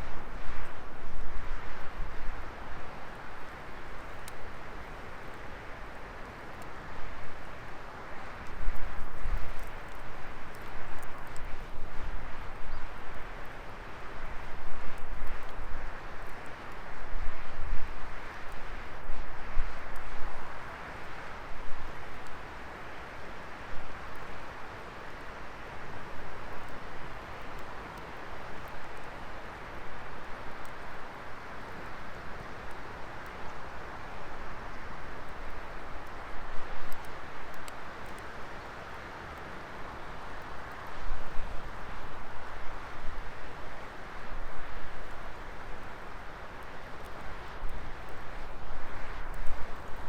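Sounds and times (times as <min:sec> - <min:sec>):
fire crackles: 0:00.0 - 0:50.0.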